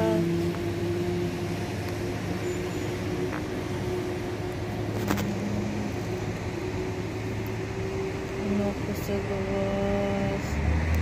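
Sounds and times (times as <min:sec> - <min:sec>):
low hum of city traffic: 0:00.0 - 0:11.0.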